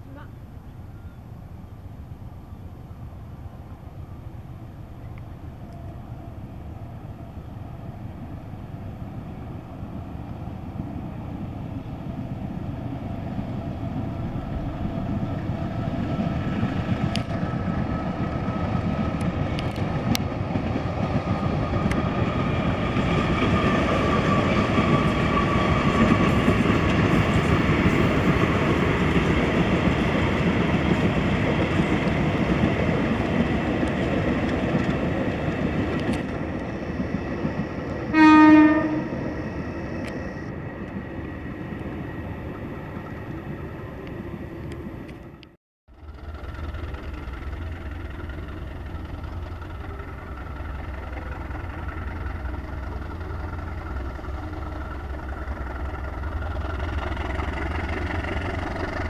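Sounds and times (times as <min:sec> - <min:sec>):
locomotive passing: 0:00.0 - 0:59.0.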